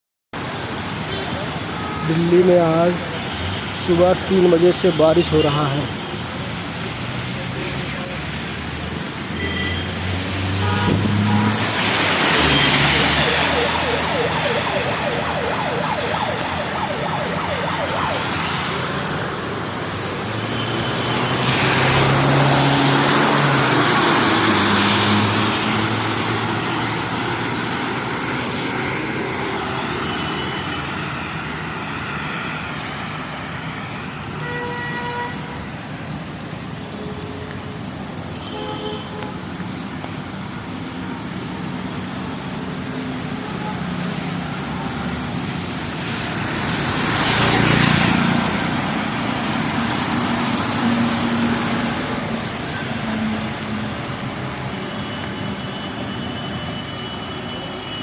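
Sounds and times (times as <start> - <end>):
rain and wet tyres hissing: 0.4 - 58.0.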